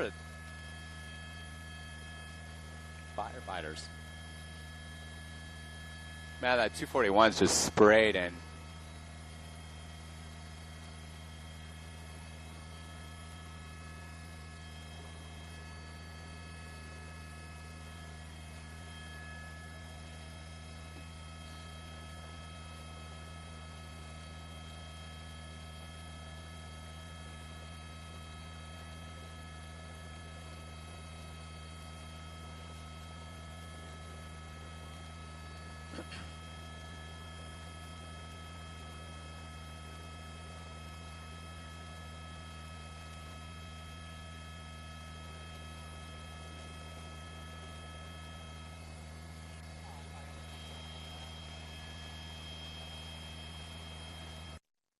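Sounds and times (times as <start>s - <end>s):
electrical hum: 0.0s - 54.6s.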